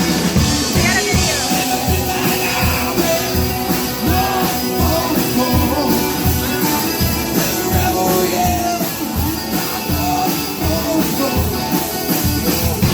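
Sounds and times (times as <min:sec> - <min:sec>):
amplified guitars: 0:00.0 - 0:12.9
drum kit beat: 0:00.0 - 0:12.9
person singing: 0:00.7 - 0:12.9.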